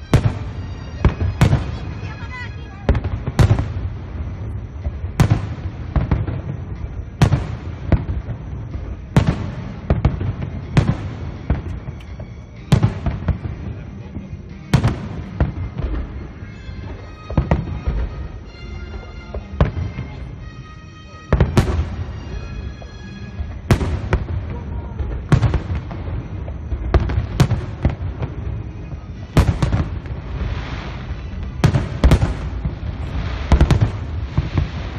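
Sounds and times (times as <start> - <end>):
fireworks booming: 0.0 - 34.9.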